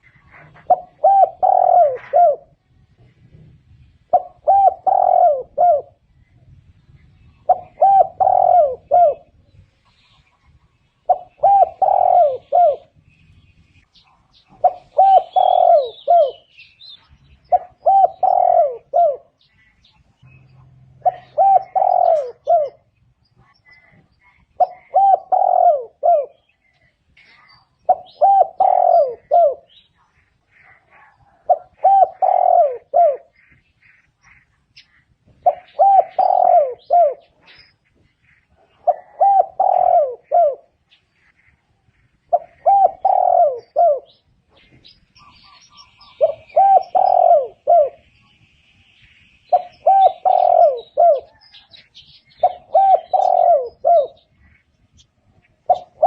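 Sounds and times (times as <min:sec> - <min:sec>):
dove cooing: 0:00.0 - 0:06.2, 0:07.2 - 0:09.5, 0:10.4 - 0:13.0, 0:14.2 - 0:48.1, 0:49.5 - 0:56.0
small birds chirping: 0:00.0 - 0:56.0.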